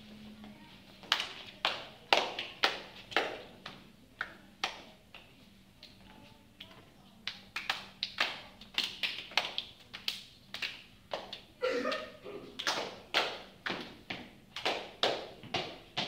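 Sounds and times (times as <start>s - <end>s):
children clapping a rhythm: 1.0s - 6.0s, 7.2s - 16.0s.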